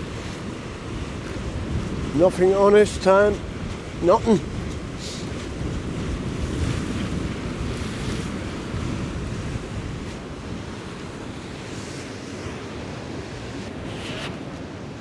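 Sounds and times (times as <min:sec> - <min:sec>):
sea waves washing against rocks: 0:00.0 - 0:15.0
wind buffeting microphone: 0:00.0 - 0:15.0.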